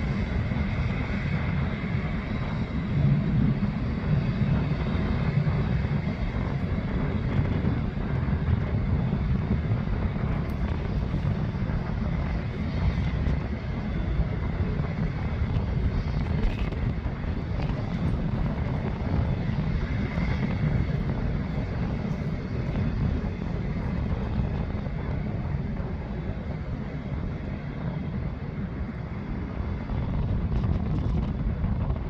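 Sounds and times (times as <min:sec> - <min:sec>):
jet engines running: 0:00.0 - 0:32.0.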